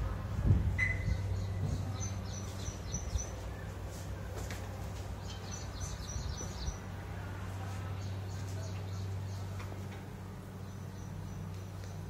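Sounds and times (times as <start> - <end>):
steady low hum: 0.0 - 12.0
small birds chirping: 0.8 - 12.0.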